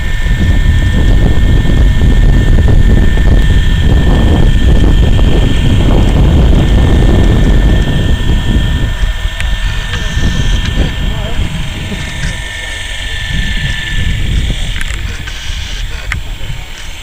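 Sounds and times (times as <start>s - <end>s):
low rotor rumble: 0.0s - 17.0s
model helicopter whine: 0.0s - 17.0s
wind buffeting microphone: 0.0s - 17.0s.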